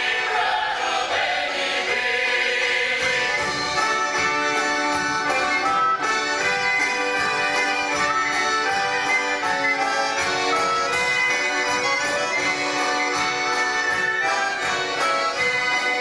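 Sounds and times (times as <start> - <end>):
folk brass and reed ensemble: 0.0 - 16.0.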